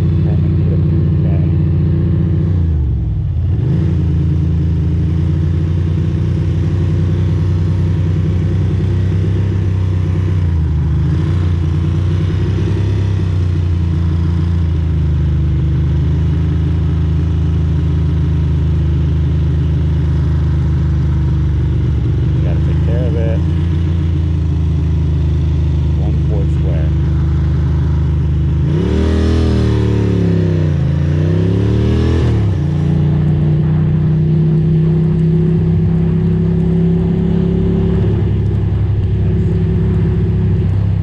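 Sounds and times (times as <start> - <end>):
motorcycle engine droning: 0.0 - 41.0.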